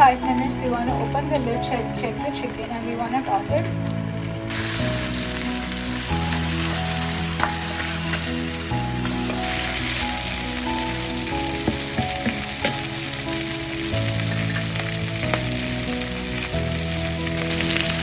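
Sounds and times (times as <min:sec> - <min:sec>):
chicken frying in hot oil: 0:00.0 - 0:18.0
soft background music: 0:00.0 - 0:18.0.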